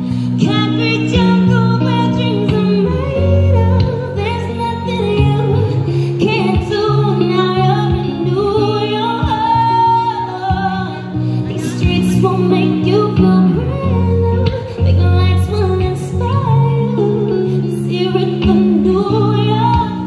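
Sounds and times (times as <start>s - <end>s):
guitar: 0.0s - 20.0s
woman singing into a microphone: 0.0s - 20.0s.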